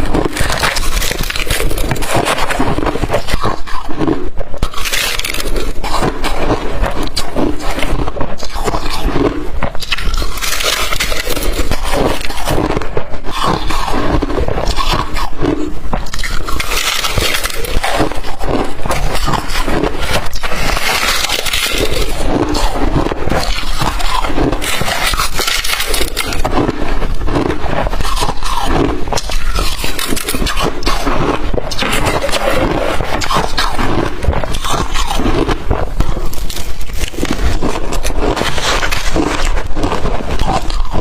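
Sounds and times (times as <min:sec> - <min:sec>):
chewing crushed ice: 0:00.0 - 0:41.0.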